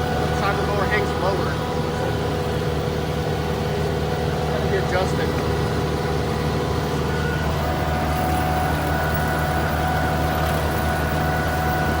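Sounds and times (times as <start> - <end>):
mower whine: 0.0 - 12.0
tractor engine running: 0.0 - 12.0.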